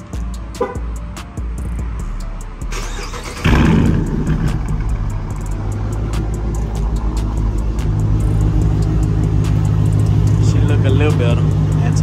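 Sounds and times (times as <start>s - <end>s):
car engine exhaust idling rumble: 0.1s - 12.0s.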